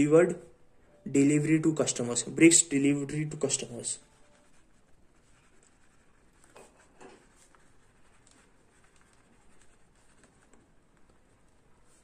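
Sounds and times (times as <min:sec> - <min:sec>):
pen scratching on paper: 0:01.8 - 0:12.0.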